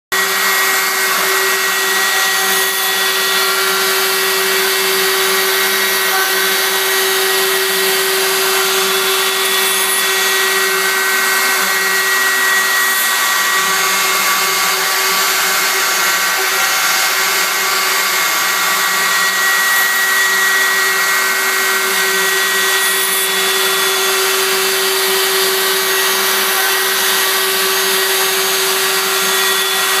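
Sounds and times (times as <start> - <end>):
cnc machine cutting: 0.1 - 30.0.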